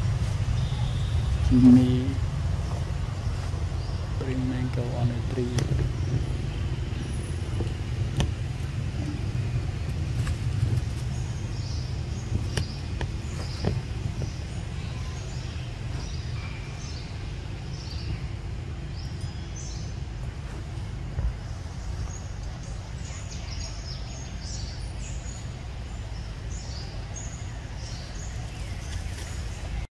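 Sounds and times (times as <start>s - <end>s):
birds chirping: 0.0s - 29.9s
steady low rumble: 0.0s - 29.9s.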